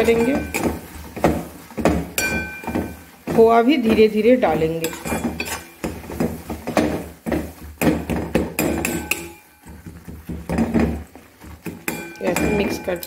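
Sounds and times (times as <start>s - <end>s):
spatula scraping a metal pan: 0.0s - 13.0s.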